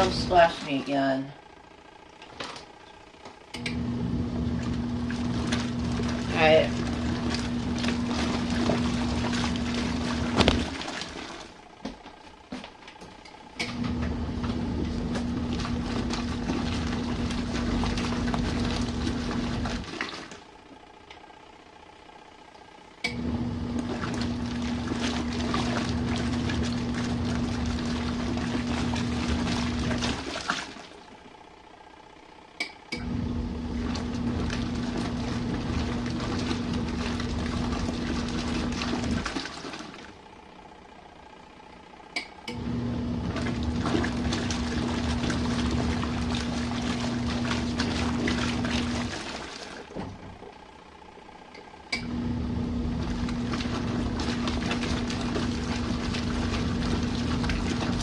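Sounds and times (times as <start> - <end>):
washing machine motor churning water: 0.0 - 58.0.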